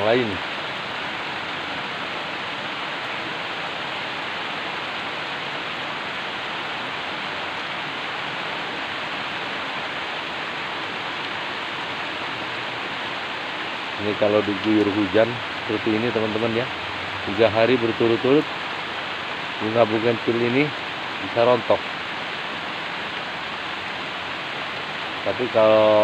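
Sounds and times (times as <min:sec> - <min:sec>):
torrential rain on plants: 0:00.0 - 0:26.0.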